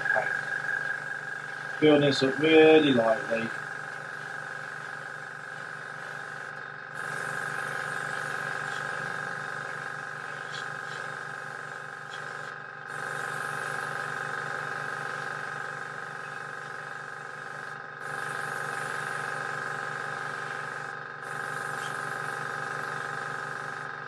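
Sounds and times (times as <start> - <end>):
airbrush air hiss: 0.0 - 23.8
compressor humming: 0.0 - 24.0.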